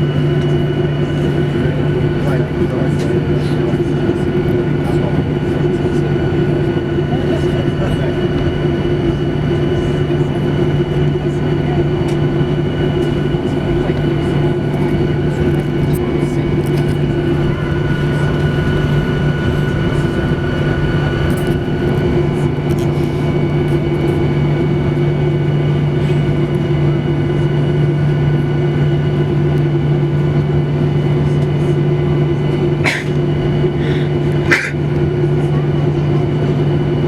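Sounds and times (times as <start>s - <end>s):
airplane cabin drone: 0.0s - 37.0s.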